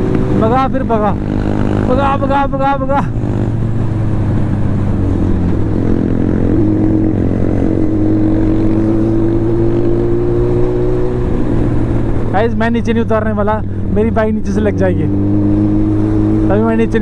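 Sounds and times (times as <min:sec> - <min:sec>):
motorcycle engine accelerating: 0:00.0 - 0:13.2, 0:13.8 - 0:17.0.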